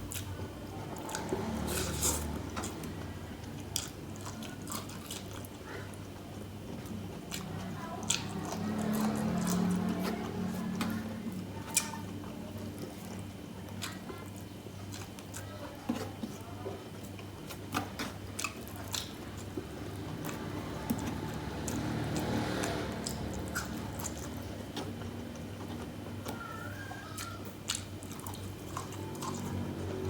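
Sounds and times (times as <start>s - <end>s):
person chewing food: 1.0s - 30.0s.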